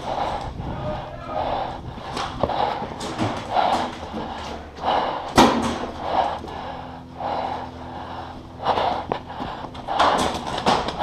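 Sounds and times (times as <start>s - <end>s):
hard noisy breathing: 0.0s - 11.0s.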